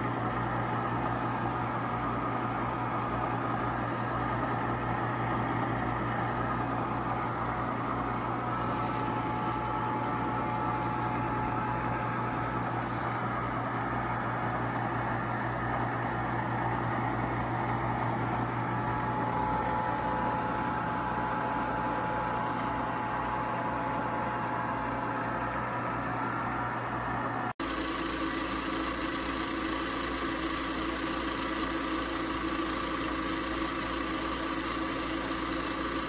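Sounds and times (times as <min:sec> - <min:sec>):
faint steady whine: 0:00.0 - 0:36.0
ice cream maker humming: 0:00.0 - 0:36.0.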